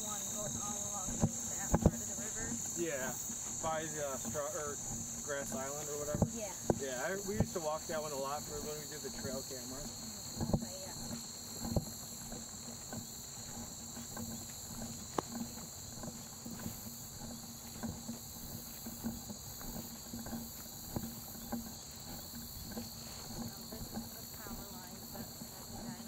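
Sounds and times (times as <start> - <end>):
high-pitched insect chorus: 0.0 - 26.0
soft footsteps: 0.0 - 26.0.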